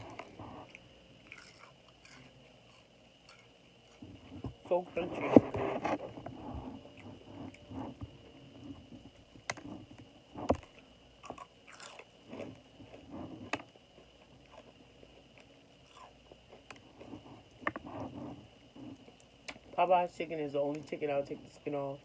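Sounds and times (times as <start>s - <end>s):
crunchy chewing of fried chicken: 0.0s - 19.8s.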